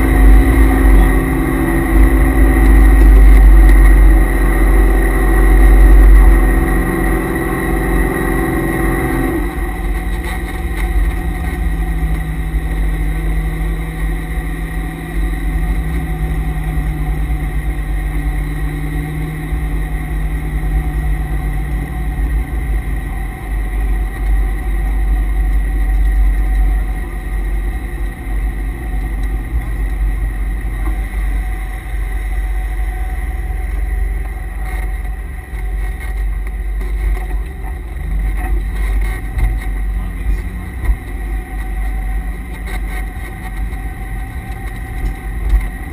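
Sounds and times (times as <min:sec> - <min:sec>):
car engine rumbling: 0:00.0 - 0:45.9
transmission whine: 0:00.0 - 0:45.9.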